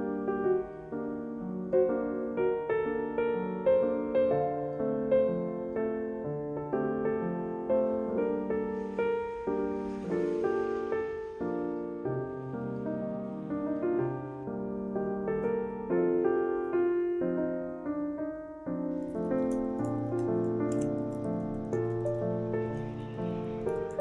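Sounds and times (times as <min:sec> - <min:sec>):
soft piano music: 0:00.0 - 0:24.0.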